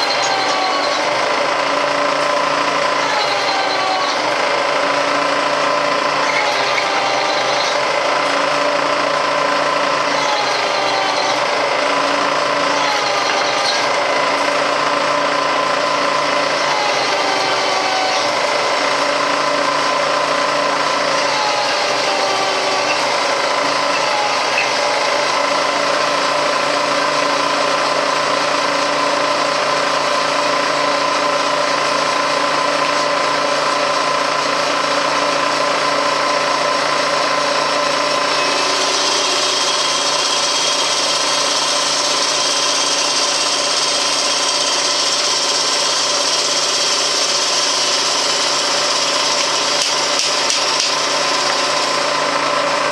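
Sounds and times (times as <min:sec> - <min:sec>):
milling machine motor hum: 0:00.0 - 0:52.9.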